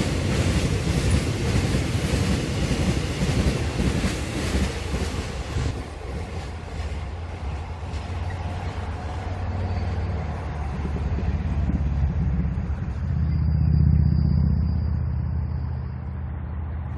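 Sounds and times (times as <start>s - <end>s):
freight train rumbling: 0.0s - 16.9s.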